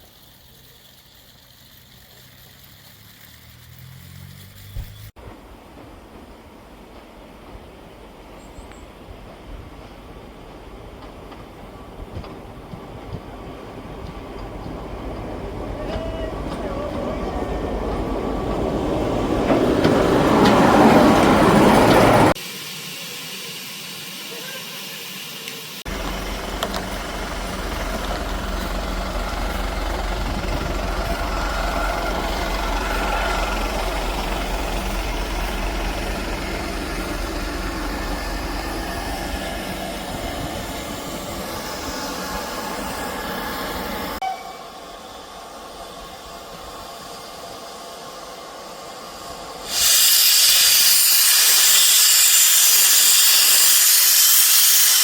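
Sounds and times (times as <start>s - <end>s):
train rumbling: 0.0s - 22.4s, 25.8s - 55.0s
loud hiss of steam: 0.0s - 55.0s.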